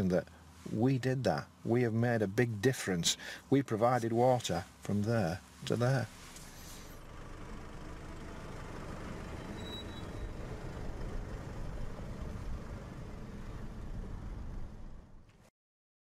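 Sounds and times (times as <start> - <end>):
vehicle engine rumble: 0.0 - 15.5.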